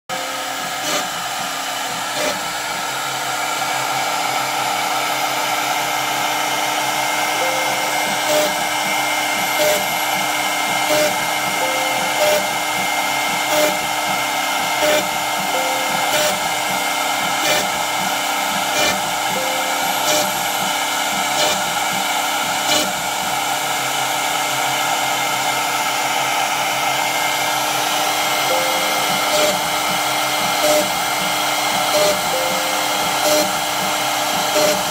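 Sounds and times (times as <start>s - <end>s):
router spindle whining: 0.1s - 34.9s.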